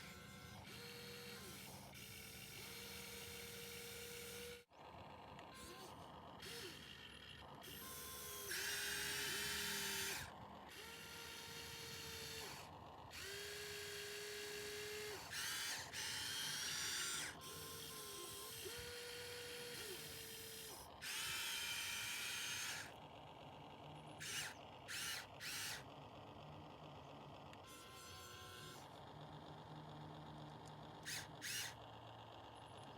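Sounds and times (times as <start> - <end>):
electric motors whirring: 0.0 - 32.9.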